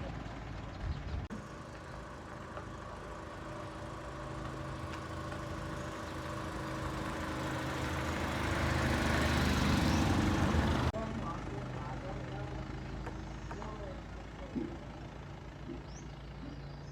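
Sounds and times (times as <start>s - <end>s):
engine running: 0.0s - 16.9s.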